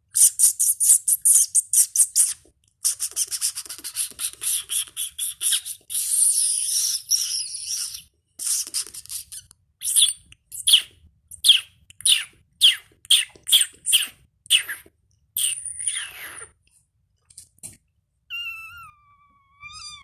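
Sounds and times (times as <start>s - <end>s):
person making squeaky lip noises: 0.1s - 16.6s, 18.3s - 20.0s.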